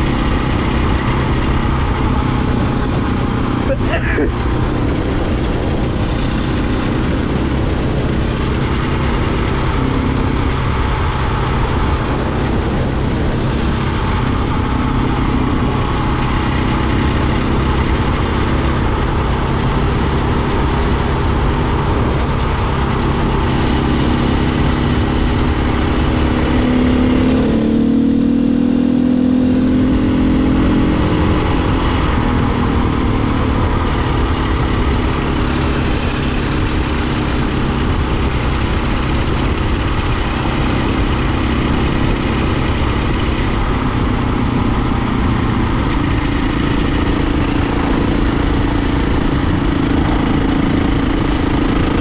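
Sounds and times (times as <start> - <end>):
dirt bike engine running: 0.0 - 52.0
wind rush on microphone: 0.0 - 52.0.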